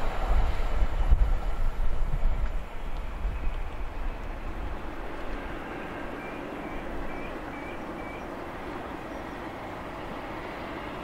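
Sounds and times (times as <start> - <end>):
diesel locomotives droning: 0.0 - 11.0.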